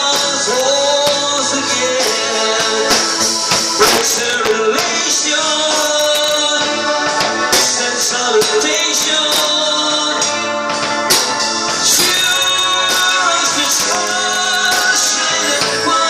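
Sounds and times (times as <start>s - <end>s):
man singing: 0.0s - 10.6s, 11.8s - 16.0s
live band playing: 0.0s - 16.0s.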